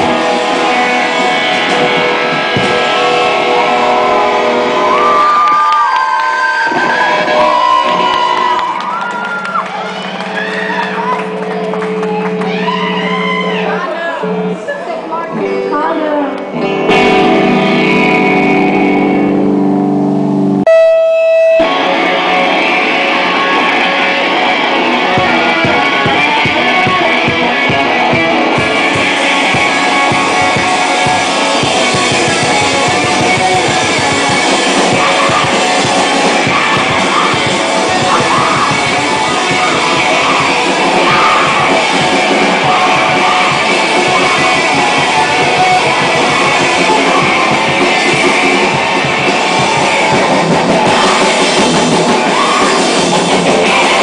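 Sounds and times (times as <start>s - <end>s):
electric guitar chord ringing: 0.0s - 5.4s, 10.9s - 54.0s
screamo band playing loud: 0.0s - 54.0s.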